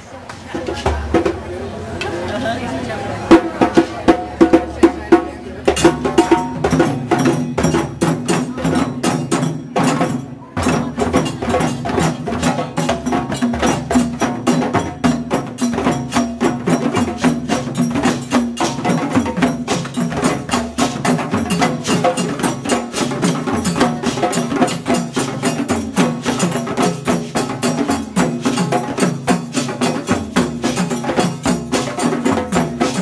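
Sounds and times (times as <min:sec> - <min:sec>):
hand drums beating a rhythm: 0:00.5 - 0:01.6, 0:03.3 - 0:33.0.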